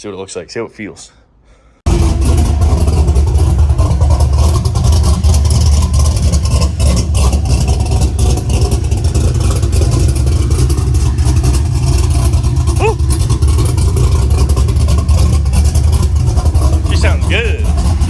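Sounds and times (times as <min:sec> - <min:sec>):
truck engine rumbling: 0:01.9 - 0:18.0.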